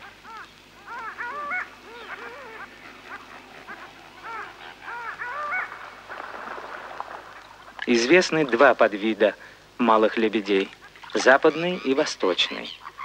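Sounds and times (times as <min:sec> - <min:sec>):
birds yelping calls: 0:00.0 - 0:13.0.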